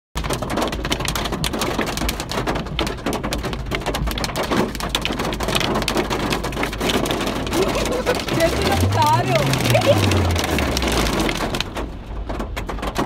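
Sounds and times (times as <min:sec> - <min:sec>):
hail clattering on hard surfaces: 0:00.2 - 0:13.0
rain: 0:00.2 - 0:13.0.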